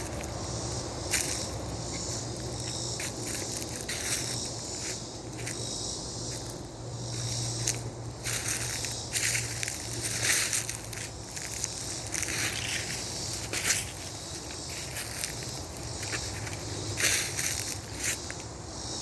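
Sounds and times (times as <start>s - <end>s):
footsteps crunching dry leaves: 0.0s - 18.4s.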